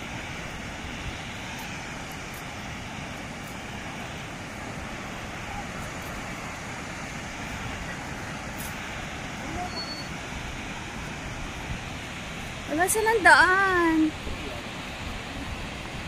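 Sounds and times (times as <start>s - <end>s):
waterfall rushing: 0.0s - 16.0s
wind rumbling on microphone: 0.0s - 16.0s.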